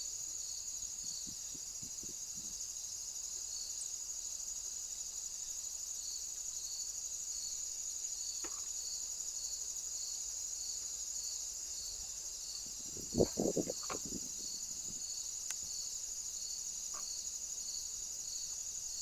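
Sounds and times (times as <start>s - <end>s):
insect high-pitched trill: 0.0s - 19.0s
insect short chirp: 0.0s - 19.0s.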